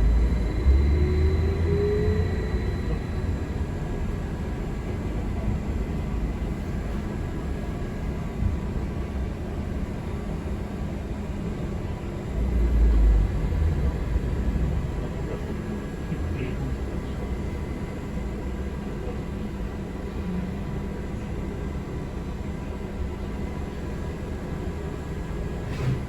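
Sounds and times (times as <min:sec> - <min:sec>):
bus cabin rumble: 0:00.0 - 0:26.0.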